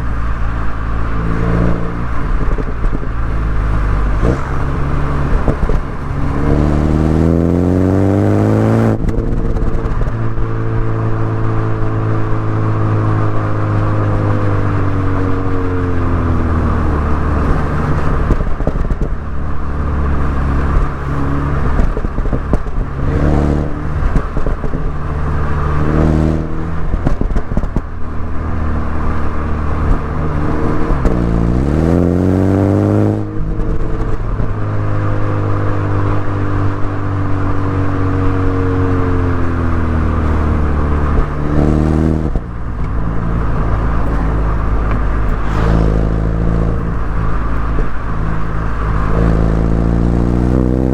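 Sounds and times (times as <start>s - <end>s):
car engine and exhaust revving: 0.0s - 50.9s.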